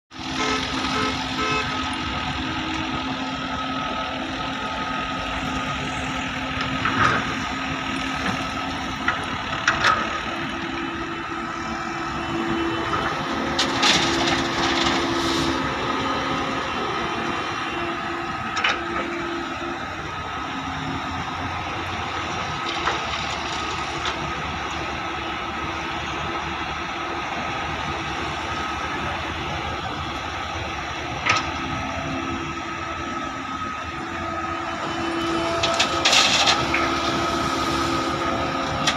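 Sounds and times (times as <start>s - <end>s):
diesel excavator running: 0.1s - 38.9s.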